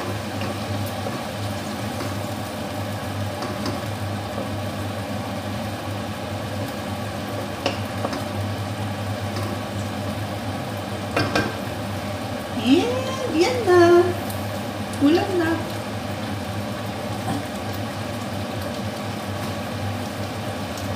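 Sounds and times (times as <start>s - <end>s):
food hissing in a pan: 0.0s - 20.9s.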